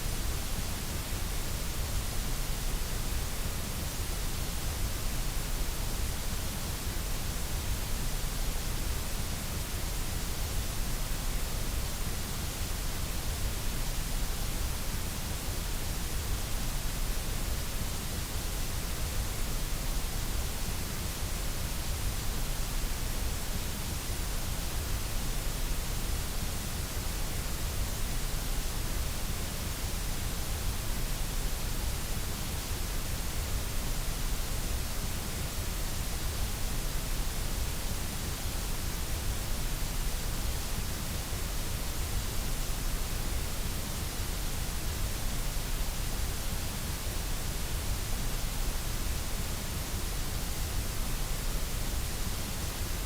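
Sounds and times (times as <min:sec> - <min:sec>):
electronic hiss: 0:00.0 - 0:53.0.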